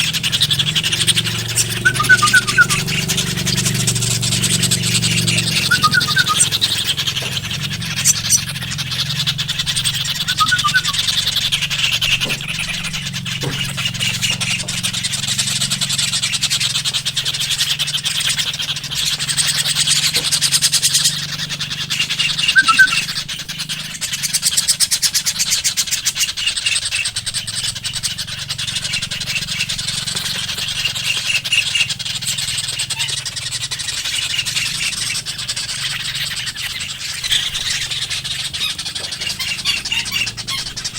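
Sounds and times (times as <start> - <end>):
birds chirping: 0.0 - 40.9
low steady hum: 0.0 - 40.9.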